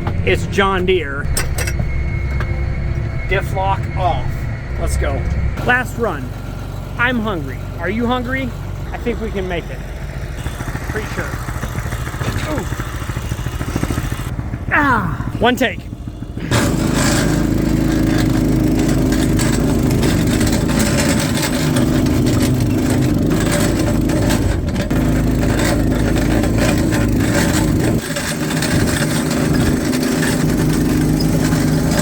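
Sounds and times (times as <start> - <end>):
vehicle engine running hard: 0.0 - 32.0.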